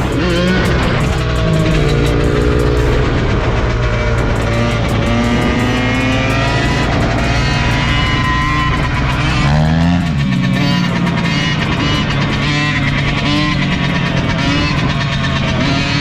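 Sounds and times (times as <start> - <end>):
background music with guitar: 0.0 - 16.0
dirt bike engine revving: 0.0 - 16.0.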